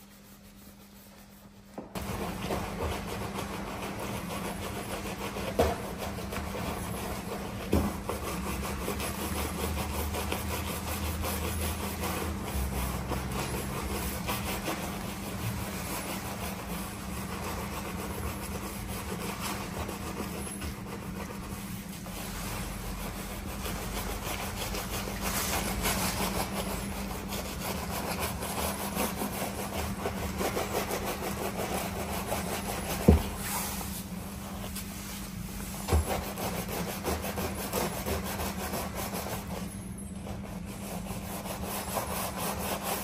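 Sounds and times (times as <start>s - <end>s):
brush scrubbing foamy surface: 0.0s - 43.0s
steady low hum: 0.0s - 43.0s.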